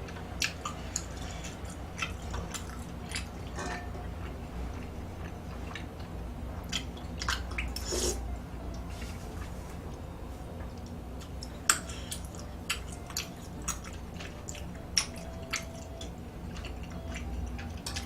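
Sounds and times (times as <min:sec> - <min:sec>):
chewing: 0:00.0 - 0:09.6, 0:10.6 - 0:18.0
low steady hum: 0:00.0 - 0:18.0.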